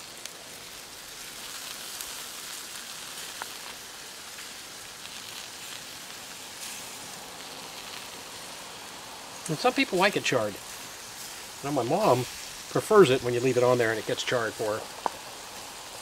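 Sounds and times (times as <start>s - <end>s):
chicken sizzling on a grill: 0.0s - 16.0s.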